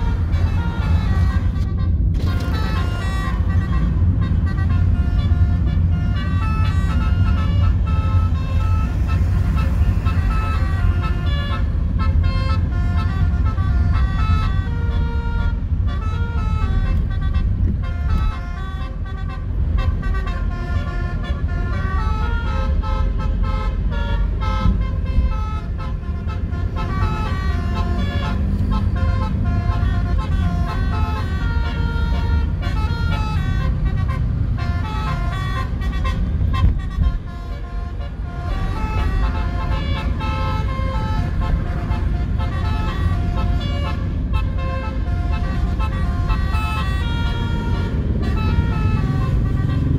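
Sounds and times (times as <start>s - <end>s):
multi-tone bus horn tune: 0.0s - 49.9s
road traffic rumble: 0.0s - 49.9s.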